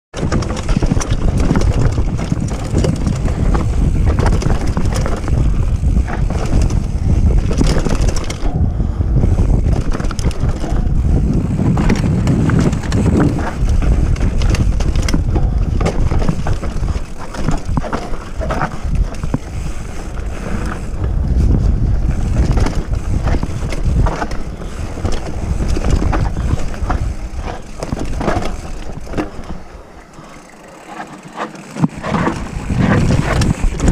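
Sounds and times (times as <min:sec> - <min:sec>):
wind on microphone: 0:00.1 - 0:29.8, 0:31.8 - 0:33.9
bike knocking and rattling: 0:00.1 - 0:33.9
tyres rumbling over ground: 0:00.2 - 0:33.9.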